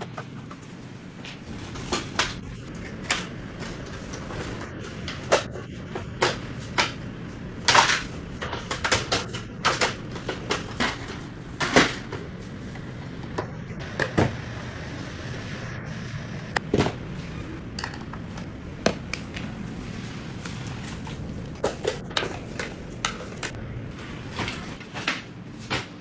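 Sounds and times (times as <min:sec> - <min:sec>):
steady low hum: 0:01.4 - 0:24.8
plastic and metal parts rattling: 0:01.5 - 0:15.5, 0:16.6 - 0:24.8.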